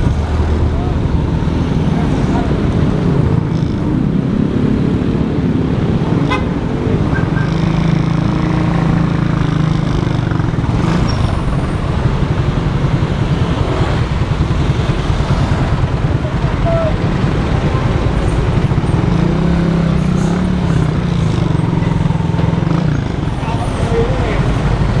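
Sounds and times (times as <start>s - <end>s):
road and traffic noise: 0.0s - 25.0s.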